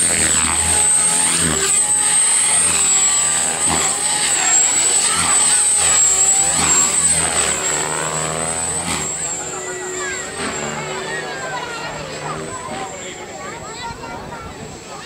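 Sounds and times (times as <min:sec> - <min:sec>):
helicopter rotor noise: 0:00.0 - 0:15.0
rc helicopter motor whine: 0:00.0 - 0:15.0.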